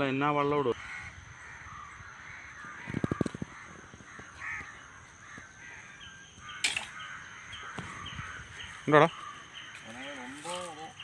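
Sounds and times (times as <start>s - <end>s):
crows cawing: 0.5s - 11.0s.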